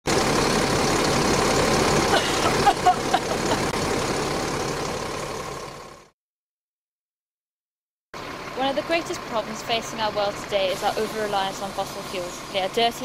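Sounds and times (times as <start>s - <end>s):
bus engine idling: 0.1s - 6.1s, 8.2s - 13.0s.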